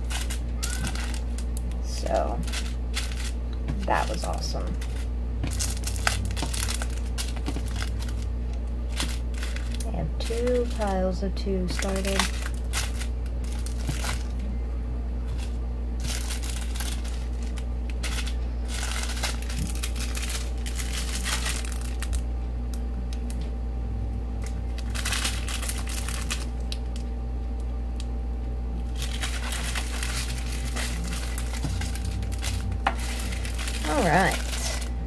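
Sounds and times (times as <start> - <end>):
plastic bags crinkling: 0.0 - 14.5, 15.2 - 23.5, 24.4 - 27.1, 28.8 - 35.0
steady low hum: 0.0 - 35.0.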